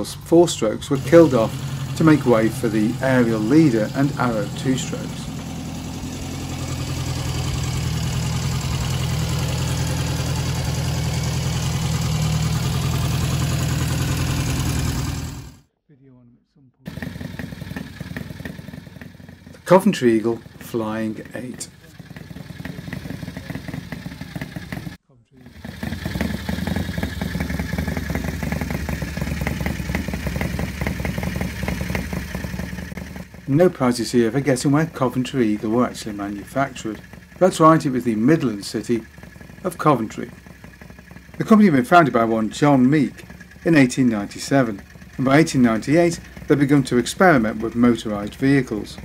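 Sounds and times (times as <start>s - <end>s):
motorcycle engine idling: 0.0s - 15.7s, 16.9s - 49.0s.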